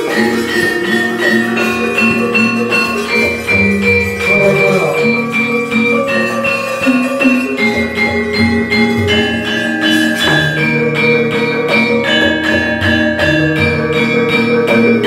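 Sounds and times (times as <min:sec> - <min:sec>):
hand drum beating: 0:00.0 - 0:15.0
metallophones struck ringing notes: 0:00.0 - 0:15.0.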